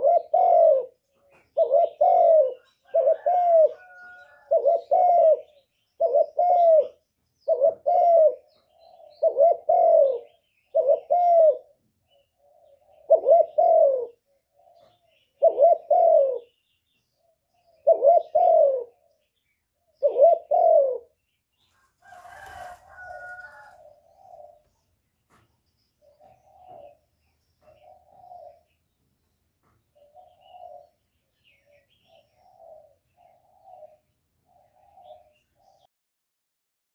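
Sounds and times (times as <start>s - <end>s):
dove cooing: 0.0s - 25.4s, 26.0s - 29.0s, 29.7s - 35.9s.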